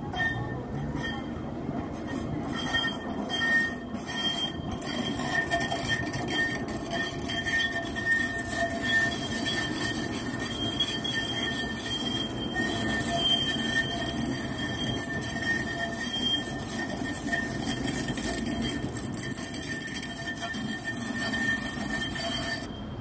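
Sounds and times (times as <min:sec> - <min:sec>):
high-pitched wheel squeal: 0:00.0 - 0:23.0
tram rumbling past: 0:00.0 - 0:23.0.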